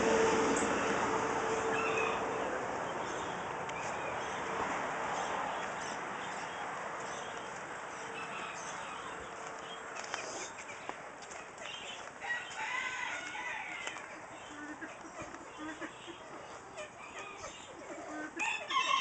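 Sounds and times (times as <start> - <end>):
farm birds calling: 0.0 - 19.0.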